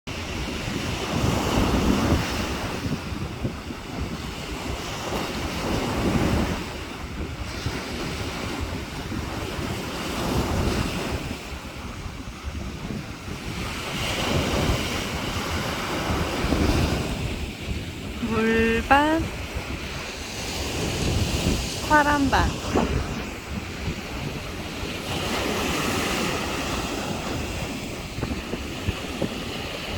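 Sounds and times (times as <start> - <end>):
sea waves breaking on a beach: 0.1 - 29.9
wind buffeting microphone: 0.1 - 29.9.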